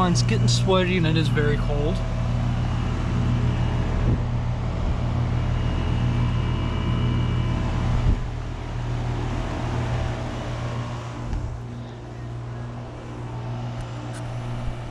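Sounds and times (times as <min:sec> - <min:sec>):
compressor humming: 0:00.0 - 0:14.9
condenser fan rushing: 0:00.0 - 0:14.9.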